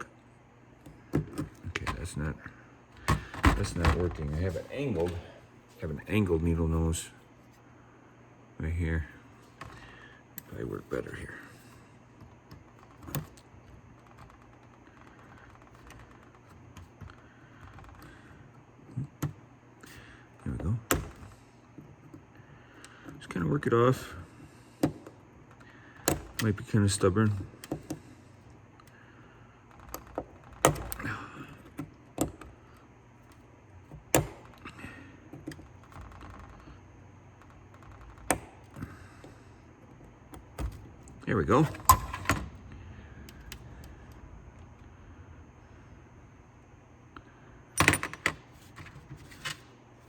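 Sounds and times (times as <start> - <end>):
faint low hum: 0.0 - 50.0.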